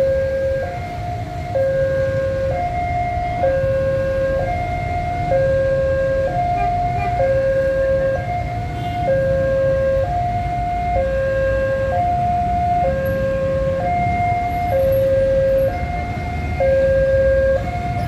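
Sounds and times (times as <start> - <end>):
two-tone crossing alarm: 0.0 - 18.0.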